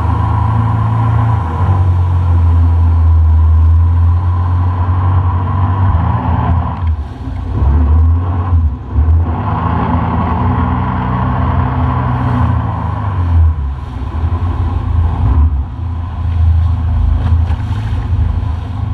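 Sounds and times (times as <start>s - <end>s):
motorboat engine running: 0.0s - 18.9s
water rushing along hull: 0.0s - 18.9s.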